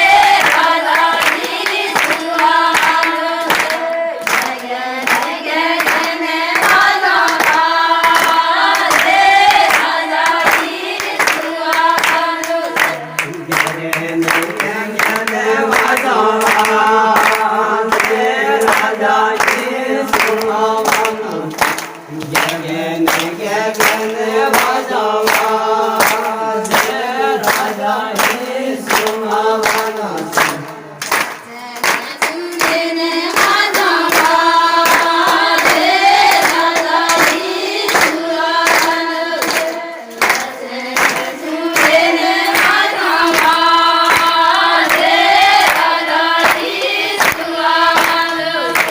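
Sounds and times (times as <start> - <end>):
group singing a devotional song: 0.0 - 48.9
rhythmic hand clapping: 0.0 - 48.9.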